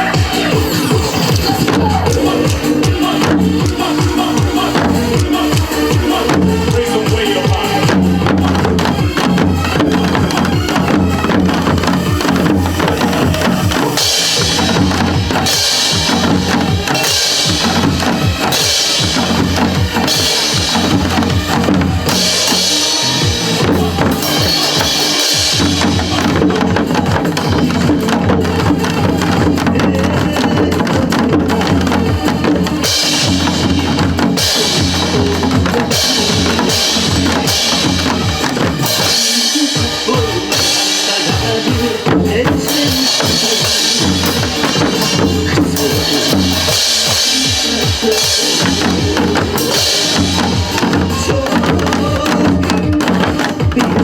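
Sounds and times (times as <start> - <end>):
hourglass drums playing: 0.0 - 54.0
recorded pop song music: 0.0 - 54.0.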